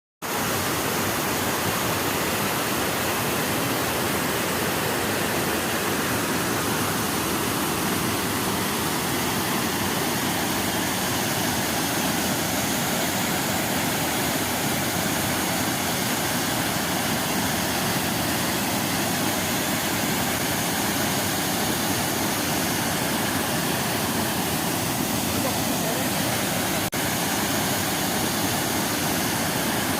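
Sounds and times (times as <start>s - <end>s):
waterfall rushing: 0.2s - 29.9s.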